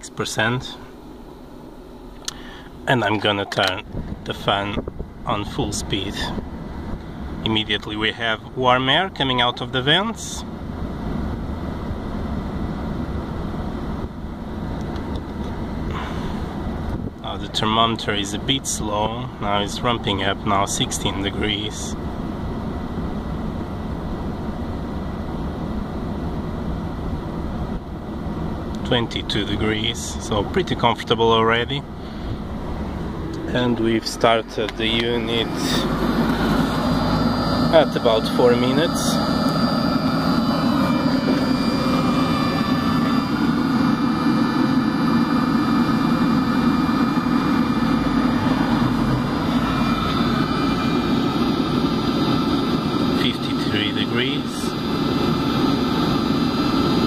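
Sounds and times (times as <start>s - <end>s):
heater blower fan running: 0.0s - 57.0s
thin steady whine: 0.0s - 57.0s.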